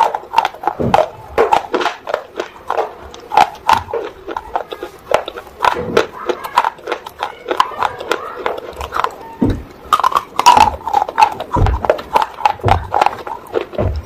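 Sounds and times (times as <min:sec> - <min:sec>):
crunchy chewing: 0:00.0 - 0:14.0
wet mouth sounds: 0:00.0 - 0:14.0.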